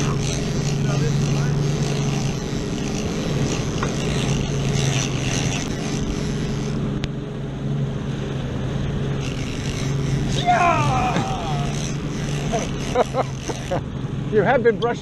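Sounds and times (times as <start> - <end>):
boat engine humming: 0.0 - 15.0
water along hull: 0.0 - 15.0.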